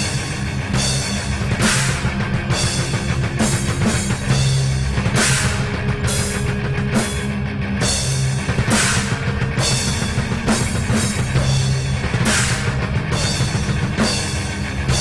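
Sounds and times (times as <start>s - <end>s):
cymbal crashes: 0.0s - 15.0s
metal drum kit: 0.0s - 15.0s
sustained low notes: 0.6s - 15.0s.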